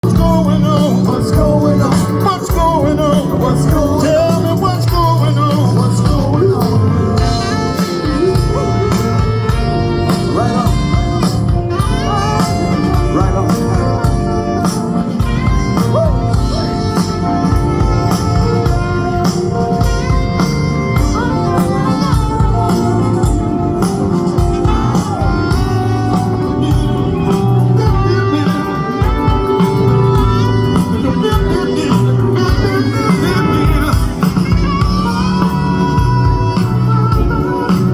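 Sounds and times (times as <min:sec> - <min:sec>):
band music with singer: 0:00.0 - 0:37.9.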